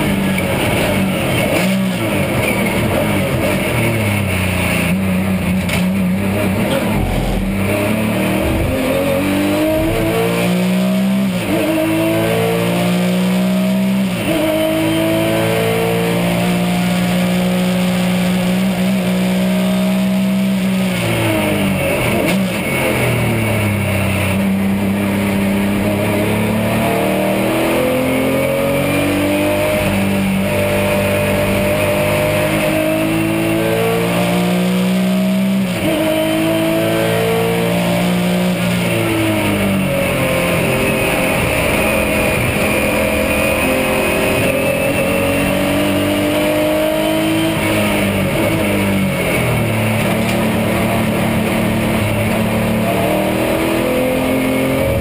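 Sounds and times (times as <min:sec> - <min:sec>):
engine downshifts with throttle blips: 0:00.0 - 0:55.0
race car engine accelerating: 0:00.0 - 0:55.0.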